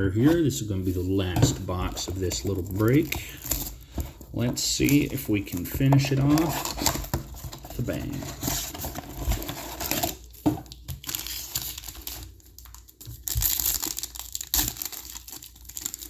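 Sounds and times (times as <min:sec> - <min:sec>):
packaging crinkling and tearing: 0:00.2 - 0:16.0.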